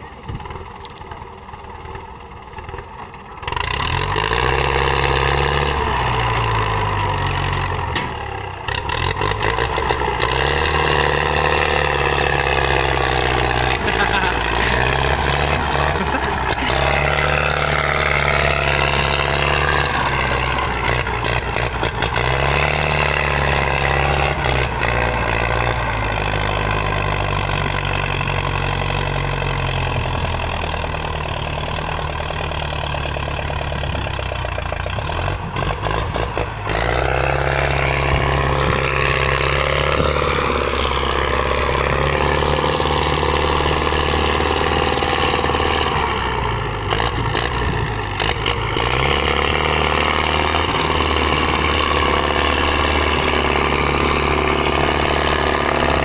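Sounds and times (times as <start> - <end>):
tractor engine revving: 0.0 - 56.0.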